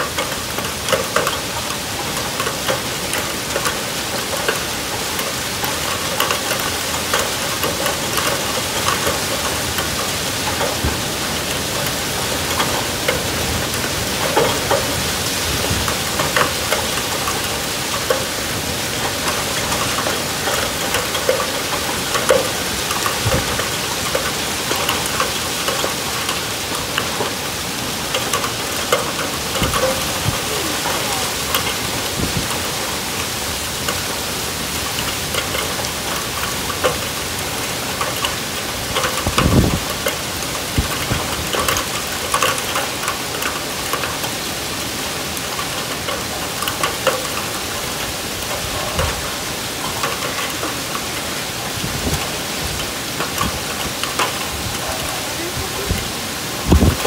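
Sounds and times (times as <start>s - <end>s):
heavy rain hissing: 0.0s - 57.0s
raindrops ticking on surfaces: 0.0s - 57.0s.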